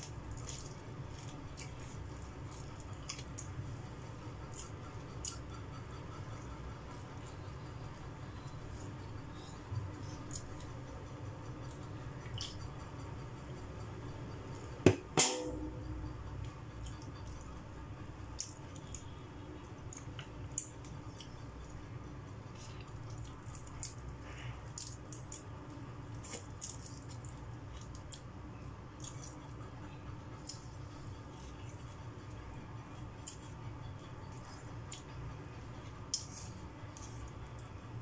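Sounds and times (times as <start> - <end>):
person chewing: 0.0 - 7.4, 8.4 - 12.8, 18.3 - 38.0.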